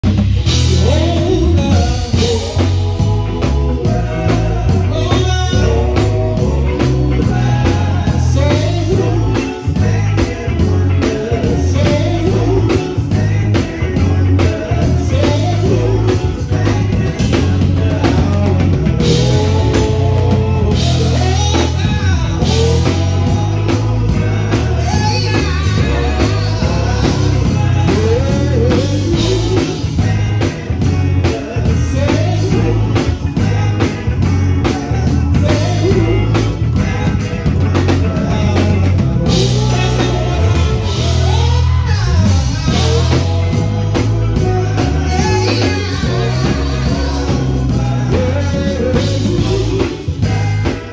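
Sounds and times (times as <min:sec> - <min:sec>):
live band with drums: 0:00.0 - 0:50.9
male vocal group singing gospel: 0:00.0 - 0:50.9.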